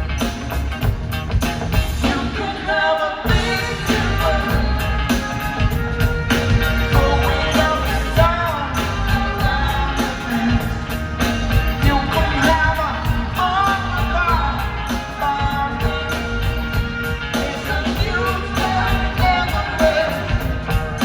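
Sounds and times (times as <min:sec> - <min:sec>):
heavy bass groove: 0:00.0 - 0:02.6, 0:03.3 - 0:21.0
live rock band playing: 0:00.0 - 0:21.0
man singing: 0:02.0 - 0:21.0.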